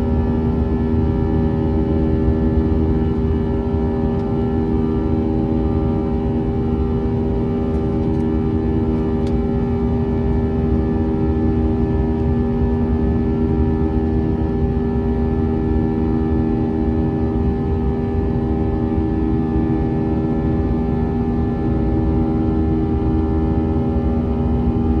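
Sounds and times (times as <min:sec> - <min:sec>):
jet engine drone in cabin: 0:00.0 - 0:25.0.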